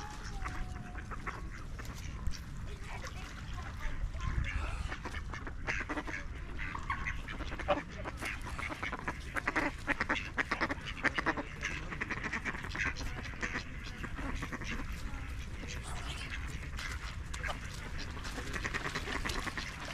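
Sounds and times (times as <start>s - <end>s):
ducks quacking: 0.0s - 19.9s.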